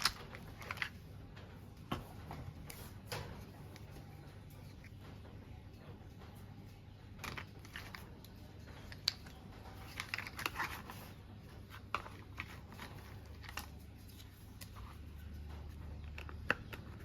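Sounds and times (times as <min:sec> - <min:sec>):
crinkly rustles: 0:00.0 - 0:17.0.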